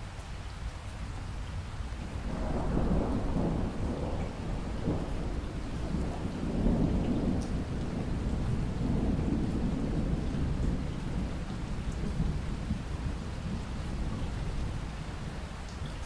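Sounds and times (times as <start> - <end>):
steady rain: 0.0 - 16.0
low rumble of thunder: 2.0 - 16.0.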